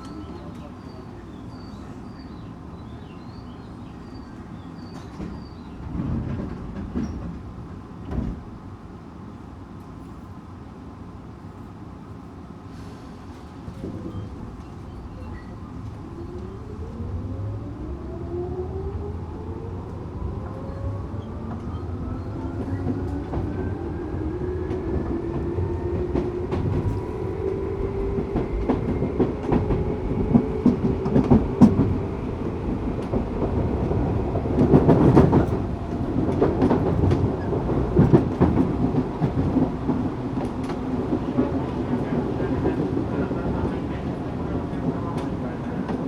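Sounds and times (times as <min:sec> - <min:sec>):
train rattling: 0:00.0 - 0:46.0.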